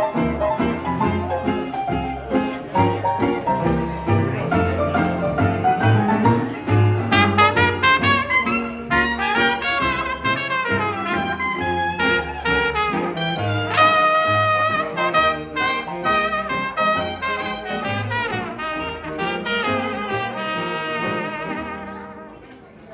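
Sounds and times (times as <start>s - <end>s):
jazz band playing: 0.0s - 22.7s.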